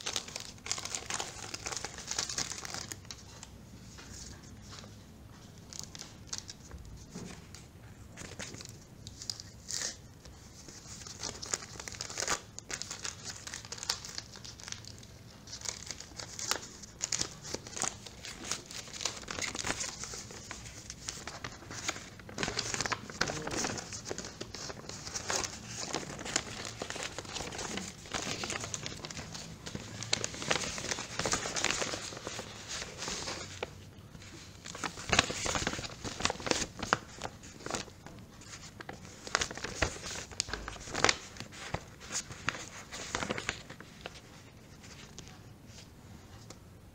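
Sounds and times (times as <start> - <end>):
plastic wrap crinkling: 0.0 - 4.9, 8.2 - 45.4
paper sheet rustling: 0.0 - 46.5.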